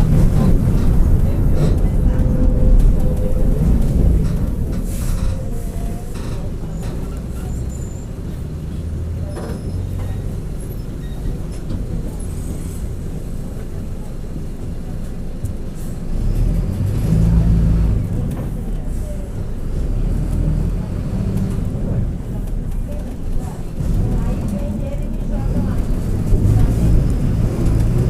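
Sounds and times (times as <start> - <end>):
bus diesel engine drone: 0.0 - 28.0.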